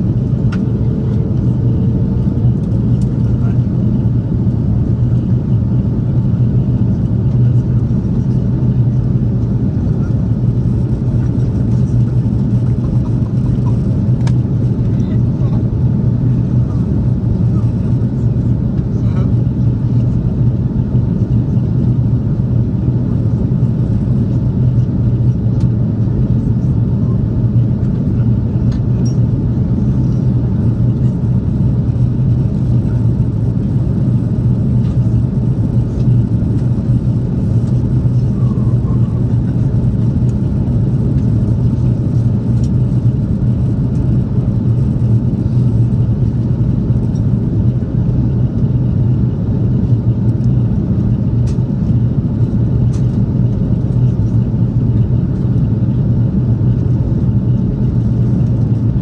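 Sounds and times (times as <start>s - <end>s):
airliner cabin drone: 0.0s - 59.0s.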